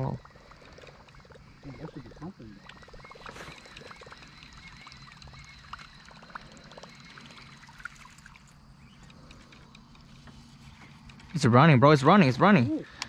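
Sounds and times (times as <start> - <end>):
water trickling and splashing: 0.0 - 11.6
low steady hum: 0.0 - 13.0.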